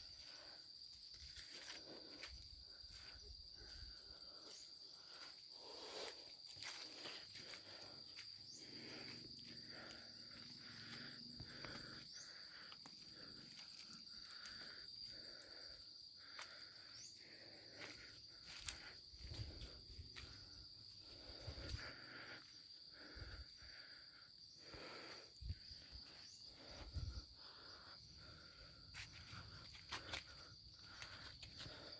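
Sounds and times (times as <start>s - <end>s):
cricket trilling: 0.0s - 31.9s.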